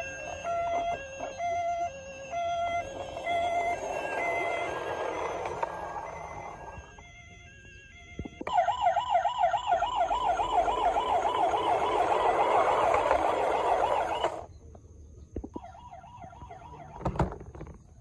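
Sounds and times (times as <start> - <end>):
electronic toy tune: 0.0 - 14.5
toy siren warbling: 0.0 - 14.5, 15.6 - 17.4.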